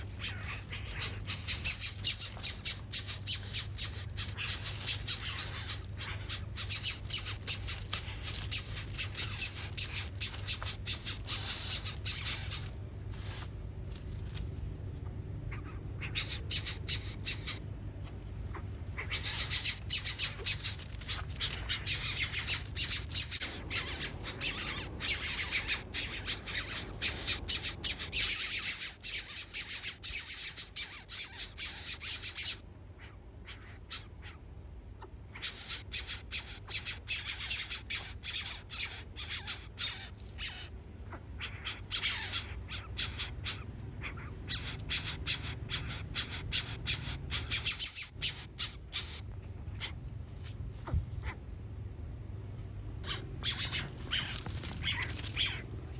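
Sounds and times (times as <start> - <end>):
nestling birds begging squawks: 0.0 - 50.1, 50.8 - 51.5, 53.0 - 55.9
low steady rumble: 0.0 - 55.9.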